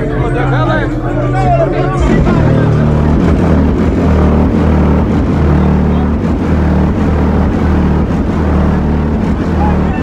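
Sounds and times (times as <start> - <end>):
subwoofers playing deep bass: 0.0 - 10.0.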